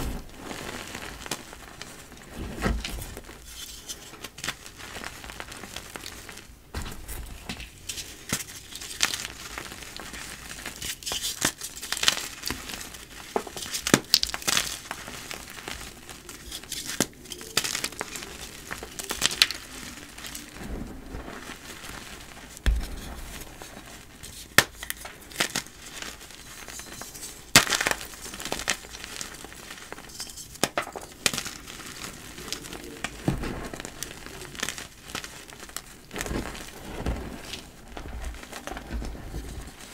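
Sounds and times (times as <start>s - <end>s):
chalk blocks crunching: 2.3s - 39.9s.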